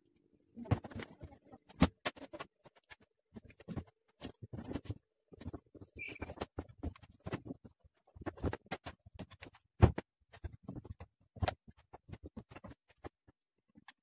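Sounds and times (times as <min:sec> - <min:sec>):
papers rustling: 0:00.6 - 0:14.0.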